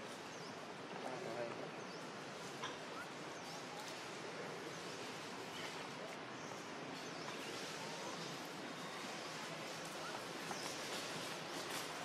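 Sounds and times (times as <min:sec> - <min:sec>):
outdoor ambience hiss: 0:00.0 - 0:12.0.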